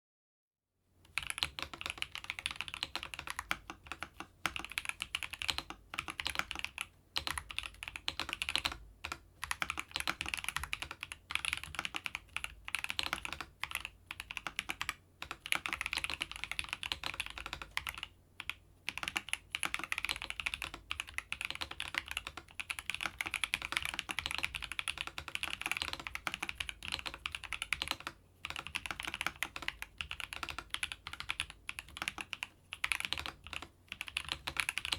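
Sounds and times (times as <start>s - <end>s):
mechanical keyboard typing: 1.1s - 34.9s.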